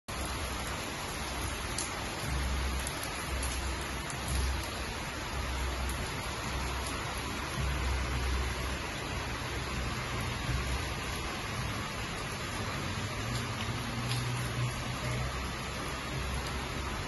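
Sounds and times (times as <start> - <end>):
heavy rain pouring: 0.1 - 17.0.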